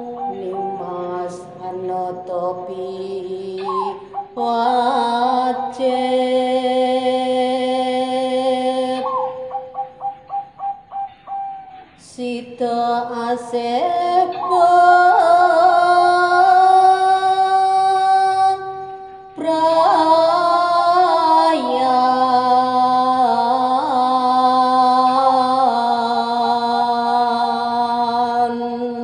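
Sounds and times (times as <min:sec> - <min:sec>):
woman singing with vibrato: 0:00.0 - 0:10.0, 0:12.0 - 0:29.0.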